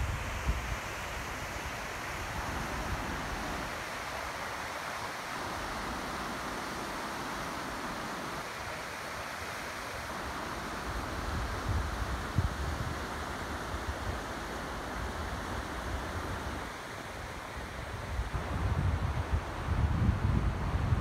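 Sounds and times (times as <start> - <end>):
river rushing over rapids: 0.0 - 21.0.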